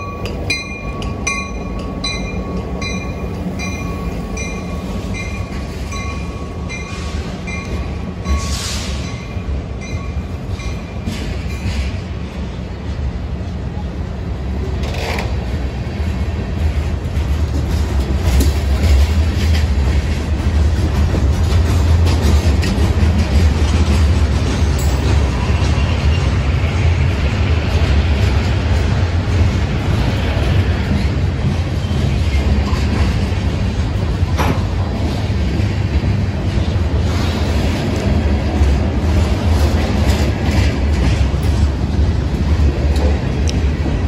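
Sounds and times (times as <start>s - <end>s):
steel wheels rumbling on rail: 0.0s - 44.0s.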